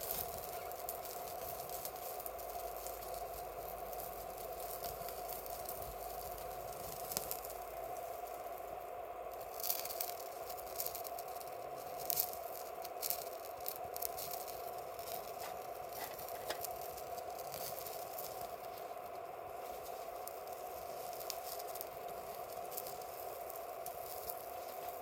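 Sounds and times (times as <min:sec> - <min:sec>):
campfire crackling: 0:00.0 - 0:25.0
steady hum: 0:00.0 - 0:25.0.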